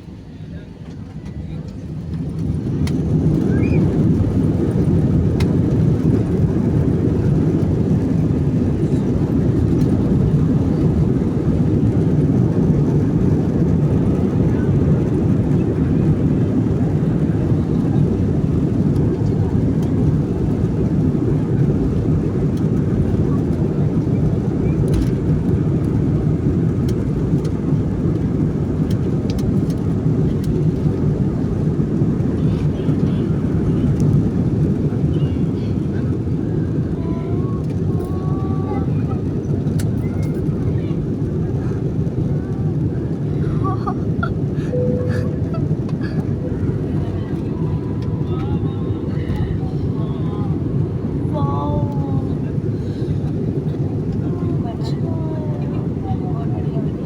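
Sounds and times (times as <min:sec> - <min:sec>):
aeroplane engines rumbling: 0:00.0 - 0:57.0.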